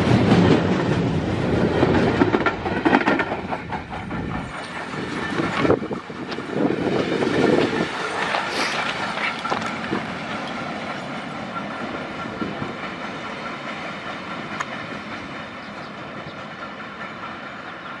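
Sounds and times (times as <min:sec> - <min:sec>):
rail clicks: 0:00.0 - 0:18.0
train wheels rumbling on rails: 0:00.0 - 0:18.0.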